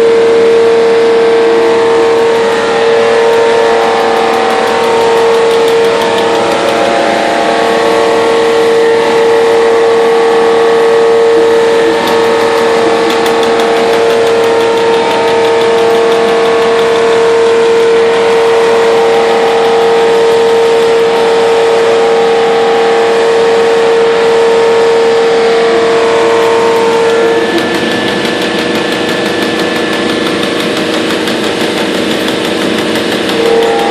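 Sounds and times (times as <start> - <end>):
punch press machine whine: 0.0 - 33.9
rapid punch strokes: 1.4 - 21.9, 26.2 - 33.9.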